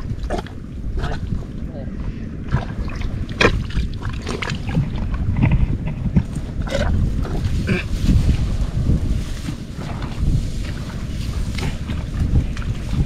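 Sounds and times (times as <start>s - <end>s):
water splashing and sloshing: 0.0s - 13.0s
wind buffeting microphone: 0.0s - 13.0s.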